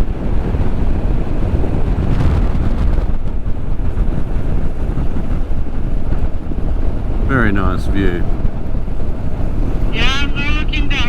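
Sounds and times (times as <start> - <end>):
road noise: 0.0 - 11.0
wind rushing over microphone: 0.0 - 11.0.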